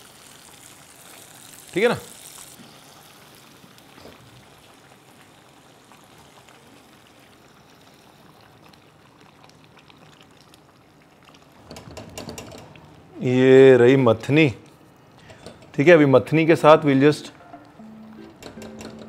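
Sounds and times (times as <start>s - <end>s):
stew bubbling in a pot: 0.0s - 16.5s.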